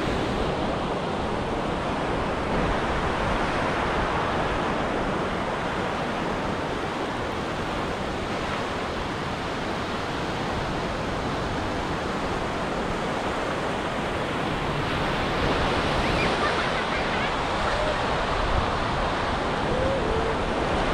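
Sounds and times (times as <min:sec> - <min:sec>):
surf breaking on beach: 0:00.0 - 0:20.9.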